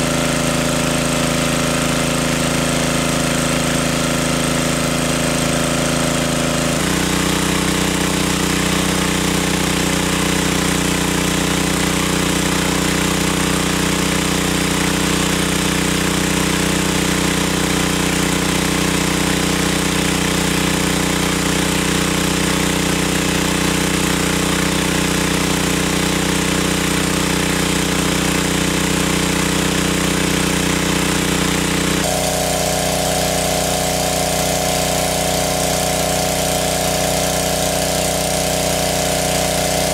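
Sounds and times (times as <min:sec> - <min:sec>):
small engine water pump running: 0:00.0 - 0:39.9.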